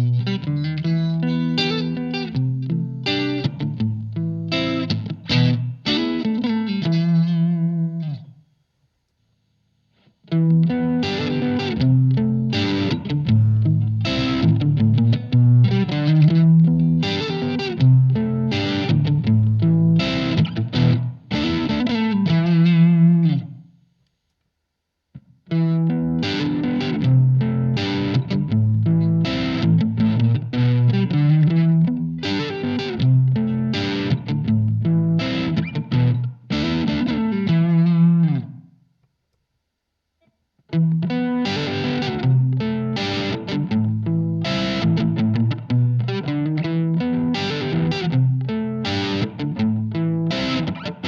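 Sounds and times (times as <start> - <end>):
electric guitar playing: 0.0 - 8.4, 10.0 - 23.8, 25.2 - 38.8, 40.6 - 51.0.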